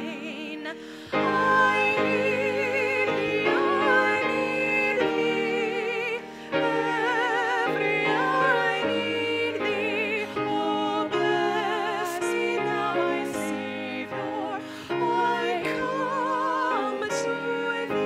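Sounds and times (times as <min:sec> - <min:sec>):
congregation and choir singing hymn: 0:00.0 - 0:18.0
piano accompaniment: 0:00.0 - 0:18.0.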